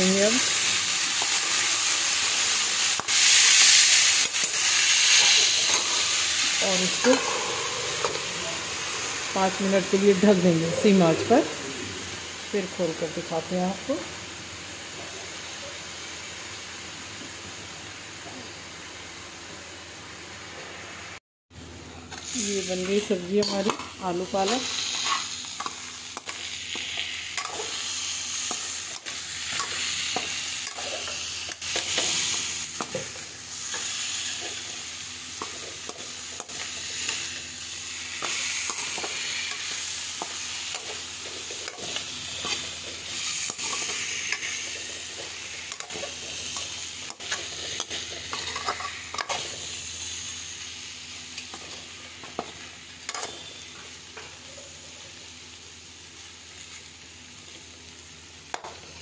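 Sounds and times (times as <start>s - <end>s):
curry sizzling in a pan: 0.0s - 21.2s, 22.0s - 59.0s.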